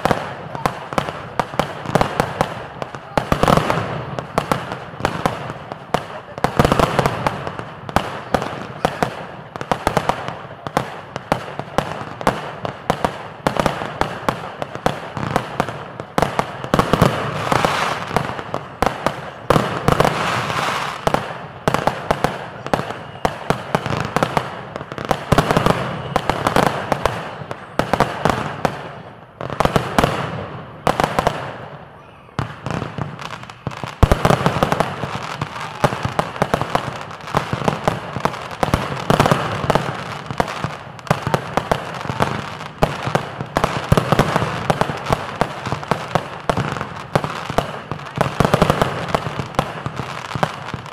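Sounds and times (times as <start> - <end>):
fireworks bangs and pops: 0.0 - 50.9.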